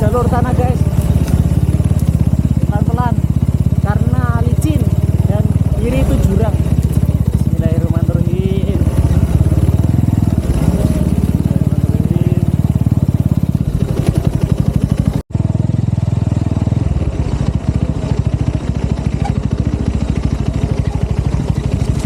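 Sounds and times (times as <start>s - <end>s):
motorcycle exhaust at low revs: 0.0s - 22.0s.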